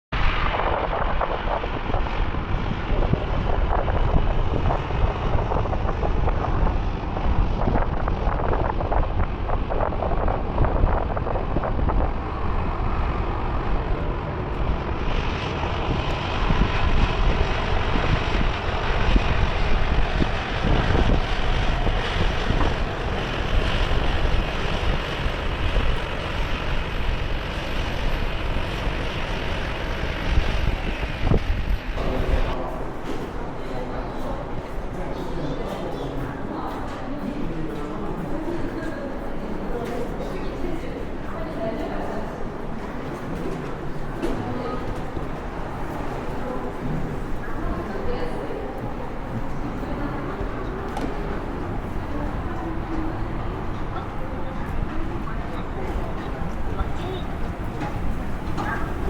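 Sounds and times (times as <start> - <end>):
jet engine rumble: 0.1 - 59.0
wind buffeting microphone: 0.1 - 59.0.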